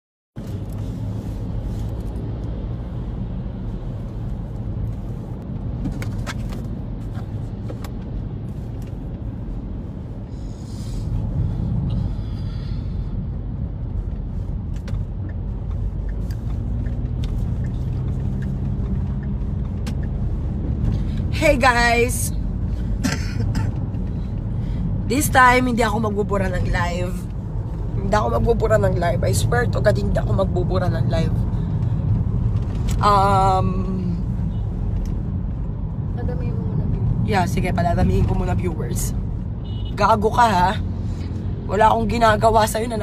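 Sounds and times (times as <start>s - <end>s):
low engine rumble: 0.4s - 43.0s.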